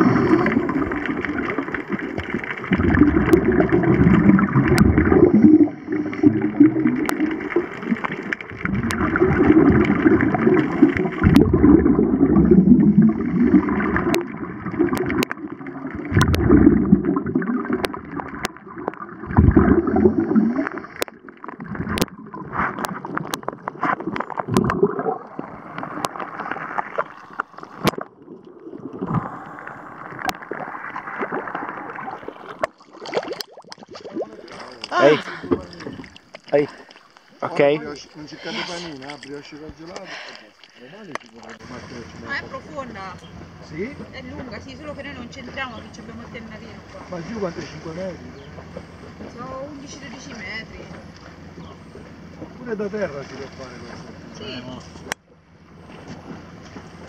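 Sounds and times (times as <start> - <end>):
underwater air bubbling: 0.0 - 57.0.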